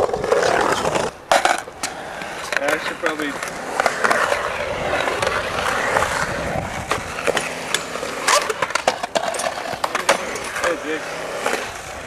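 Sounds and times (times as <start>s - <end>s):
skateboard clacking on coping: 0.0s - 12.0s
skateboard wheels rolling on concrete: 0.0s - 12.0s.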